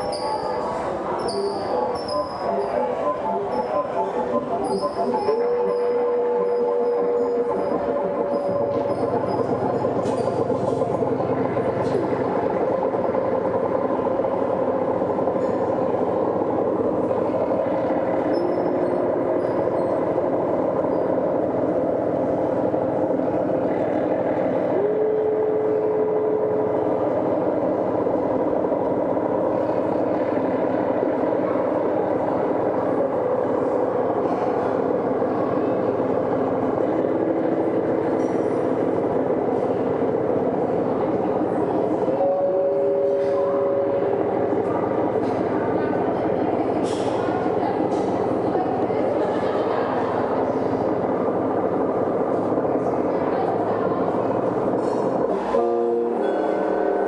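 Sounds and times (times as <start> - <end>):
dense droning ambient noise: 0.0 - 57.0.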